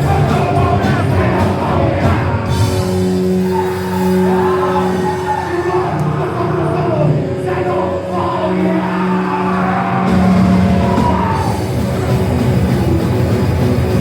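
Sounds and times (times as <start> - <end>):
shouted vocals: 0.0 - 11.8
punk rock band playing: 0.0 - 14.0.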